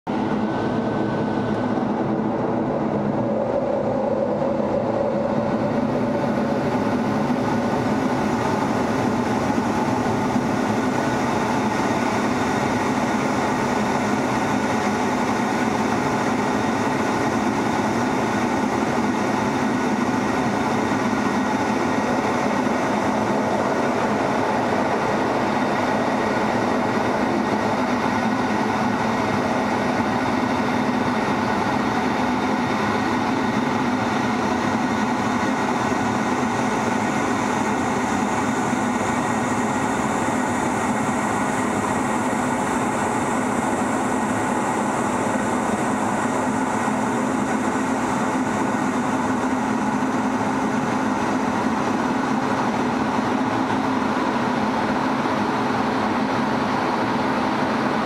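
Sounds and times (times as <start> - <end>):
jet engine at high power: 0.1 - 58.0.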